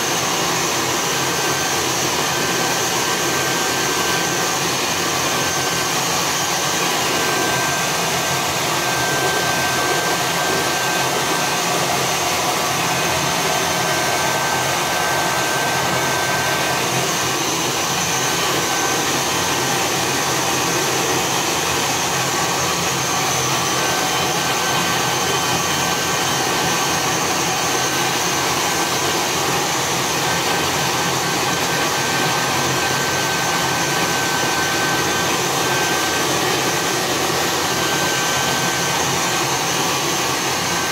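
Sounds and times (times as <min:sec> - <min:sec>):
hair dryer blowing air: 0:00.0 - 0:40.9
hair dryer whine: 0:00.0 - 0:40.9.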